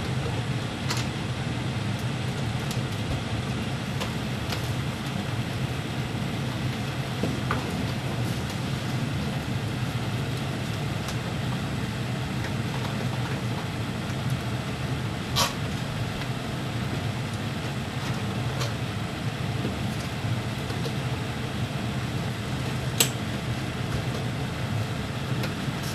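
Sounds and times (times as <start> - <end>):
room hum and hiss: 0.0 - 25.9.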